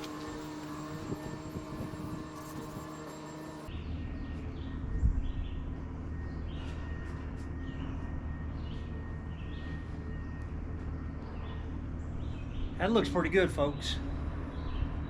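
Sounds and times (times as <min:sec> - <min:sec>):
birds chirping: 0:00.0 - 0:15.0
sawmill engine running low: 0:00.0 - 0:15.0.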